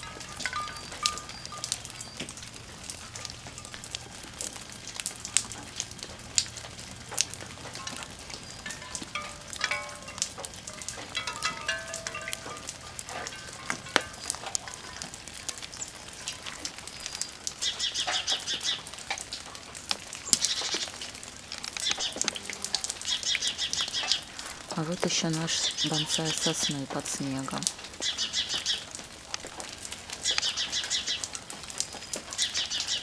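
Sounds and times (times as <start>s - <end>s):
birds calling: 0.0s - 33.0s
wet snow dripping onto leaves: 0.0s - 33.0s.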